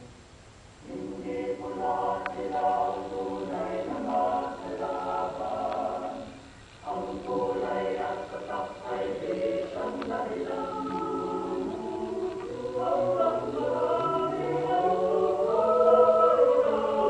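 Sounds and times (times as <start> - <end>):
a cappella choir singing: 0.8 - 17.0.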